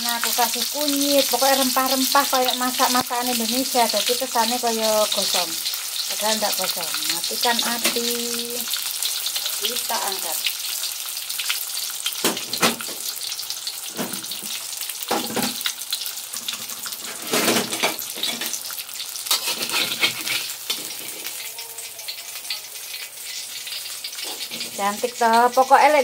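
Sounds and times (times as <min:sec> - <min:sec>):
oil sizzling and crackling: 0:00.0 - 0:26.0.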